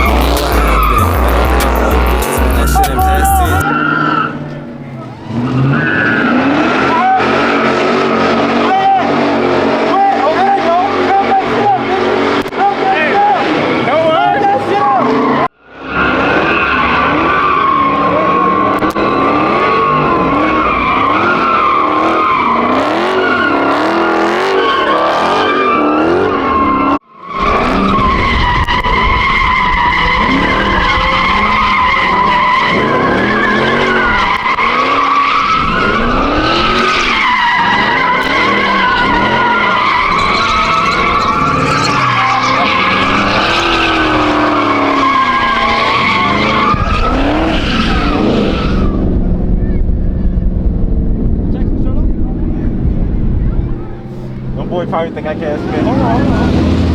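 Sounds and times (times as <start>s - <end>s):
tire squeal: 0.0s - 50.4s, 52.6s - 56.9s
car engine revving: 0.0s - 56.9s.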